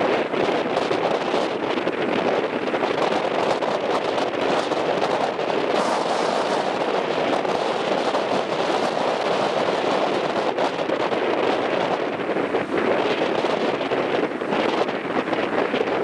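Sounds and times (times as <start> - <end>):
surf: 0.0 - 16.0
wind buffeting microphone: 0.0 - 16.0.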